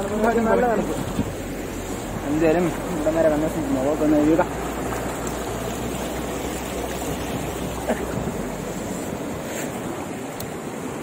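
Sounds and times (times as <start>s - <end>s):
wind rumble on microphone: 0.0s - 3.4s, 4.6s - 11.0s
river rushing over rocks: 0.0s - 11.0s.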